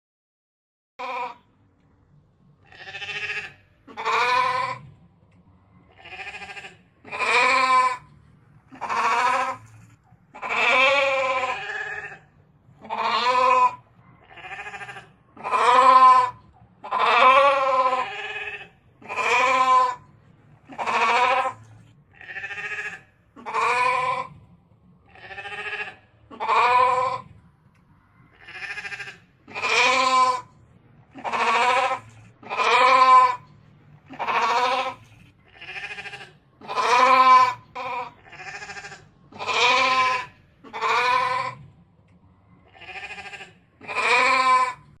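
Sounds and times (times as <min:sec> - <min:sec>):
rams bleating: 0:01.0 - 0:01.4, 0:02.6 - 0:04.9, 0:05.9 - 0:08.1, 0:08.7 - 0:24.4, 0:25.0 - 0:27.3, 0:28.3 - 0:33.5, 0:34.1 - 0:41.7, 0:42.6 - 0:45.0.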